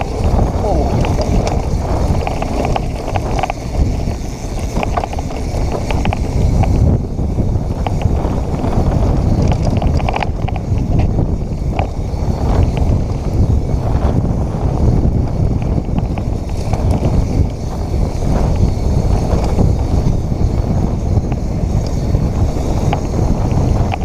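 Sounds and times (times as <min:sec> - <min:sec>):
bike clicks and rattles: 0:00.0 - 0:24.0
bike tyre noise on dirt: 0:00.0 - 0:24.0
wind rumble on microphone: 0:00.0 - 0:24.0.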